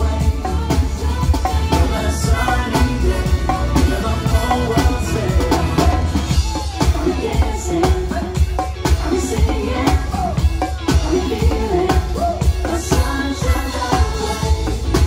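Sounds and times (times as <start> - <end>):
heavy bass: 0.0 - 15.0
steady drum beat: 0.0 - 15.0
upbeat show song with singing: 0.0 - 15.0.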